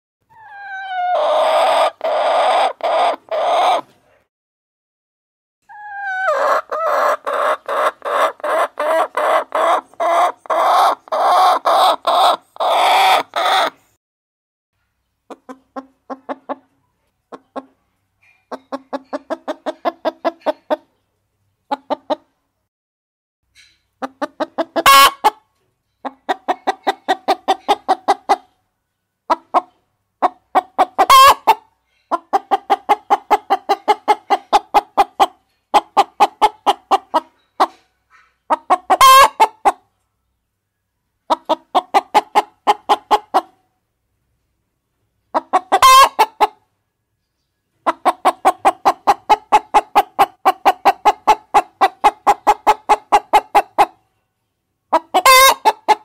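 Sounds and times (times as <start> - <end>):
chickens clucking: 0.3 - 4.2, 5.7 - 13.9, 14.8 - 22.4, 23.5 - 28.7, 29.3 - 40.1, 41.2 - 43.8, 44.9 - 46.7, 47.3 - 54.2, 54.9 - 56.0.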